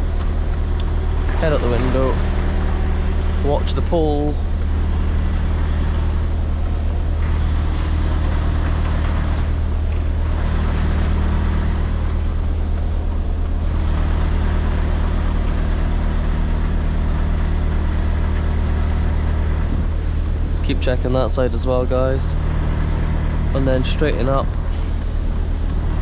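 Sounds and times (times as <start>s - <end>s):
lorry diesel engine running: 0.0s - 26.0s.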